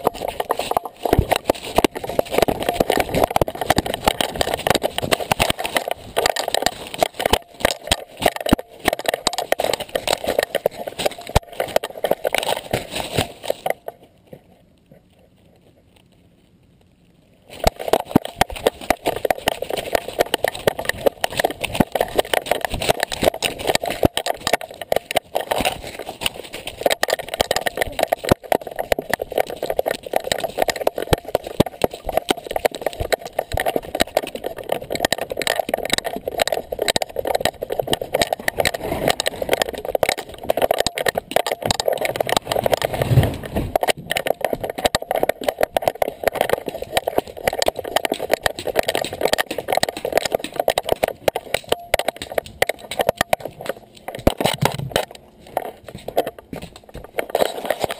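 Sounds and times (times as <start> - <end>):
camera mount rattling and knocking: 0.0 - 13.9, 17.6 - 57.9.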